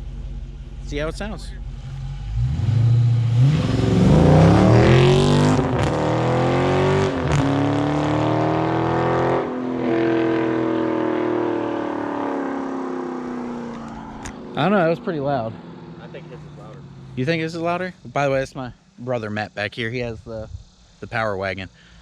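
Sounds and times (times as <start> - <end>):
car engine accelerating hard: 0.9 - 18.7.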